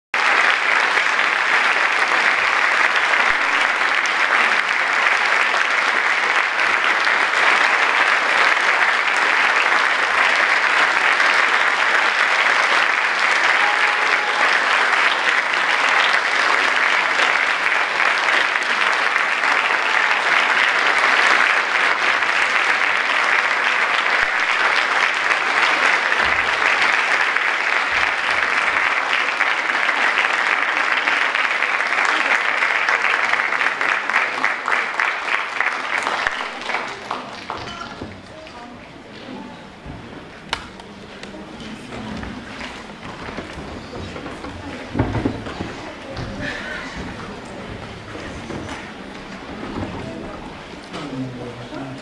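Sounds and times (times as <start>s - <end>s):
audience applauding: 0.1s - 52.0s.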